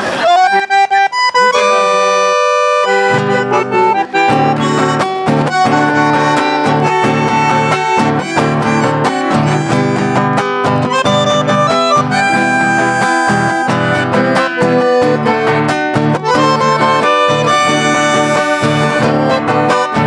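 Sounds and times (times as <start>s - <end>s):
acoustic guitar playing: 0.0s - 20.0s
bandoneon playing: 0.0s - 20.0s.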